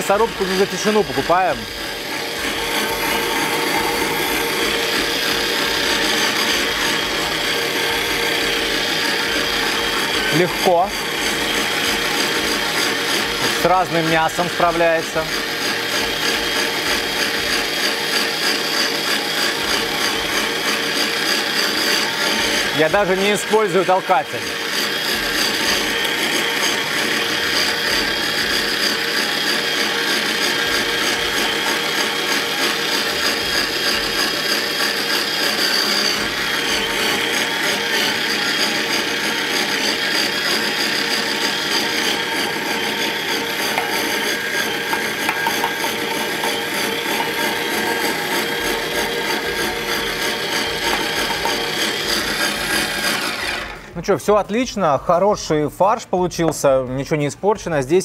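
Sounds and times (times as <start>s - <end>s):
electric meat grinder running: 0.0s - 54.0s.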